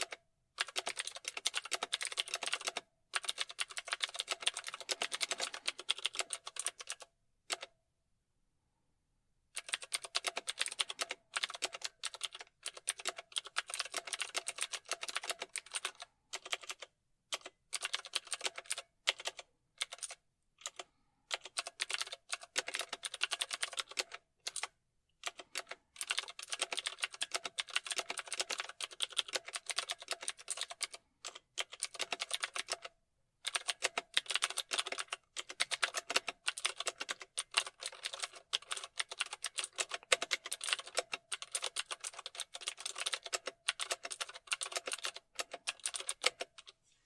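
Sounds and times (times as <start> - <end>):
typing on computer keyboard: 0.0 - 7.8, 9.6 - 46.8.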